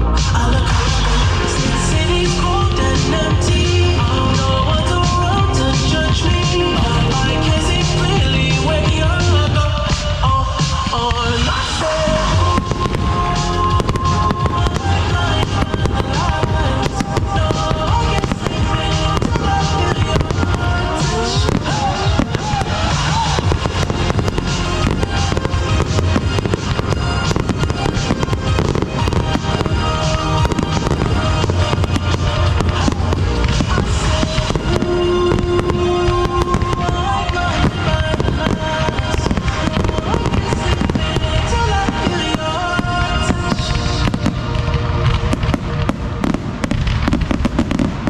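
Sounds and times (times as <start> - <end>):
fireworks bangs and crackling: 0.0 - 48.0
loud music: 0.0 - 48.0.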